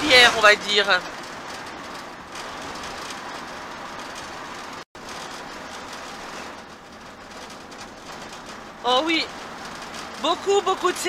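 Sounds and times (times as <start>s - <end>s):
road tyre and engine noise: 0.0s - 11.0s.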